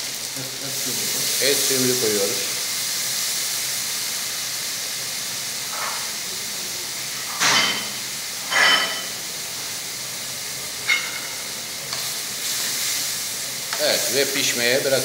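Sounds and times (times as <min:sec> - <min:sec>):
stew sizzling in a frying pan: 0:00.0 - 0:15.0.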